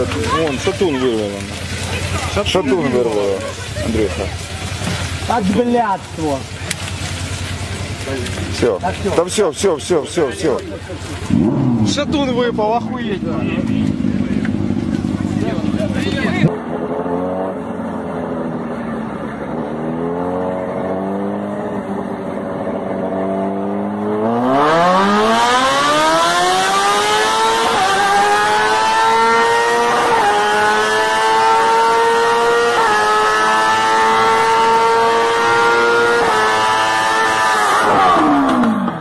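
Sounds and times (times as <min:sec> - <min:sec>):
engine revving: 0:00.0 - 0:39.0.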